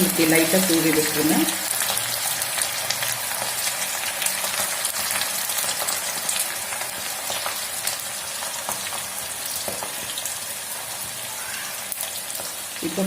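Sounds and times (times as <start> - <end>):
vegetable slices sizzling in oil: 0.0 - 13.0.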